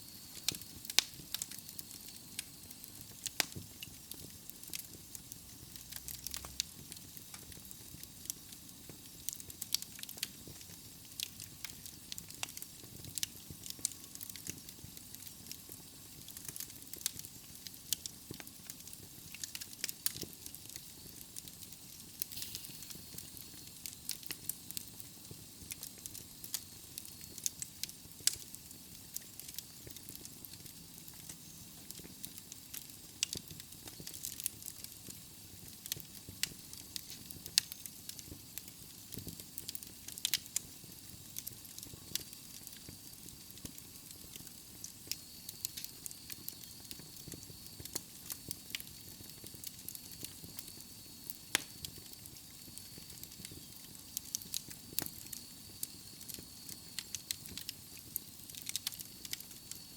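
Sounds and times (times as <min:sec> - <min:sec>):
soft steady fire hiss: 0:00.0 - 0:59.9
wood fire crackling and popping: 0:00.0 - 0:59.9.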